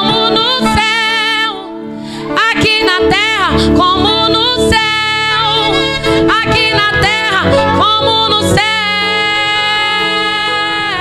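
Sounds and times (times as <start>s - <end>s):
instrumental accompaniment: 0.0s - 11.0s
woman singing into a microphone: 0.0s - 11.0s.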